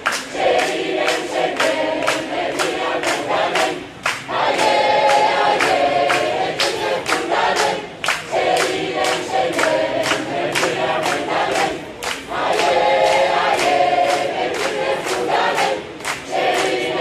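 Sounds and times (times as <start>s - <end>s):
crowd singing in unison: 0.0s - 17.0s
hands clapping on the beat: 0.0s - 17.0s.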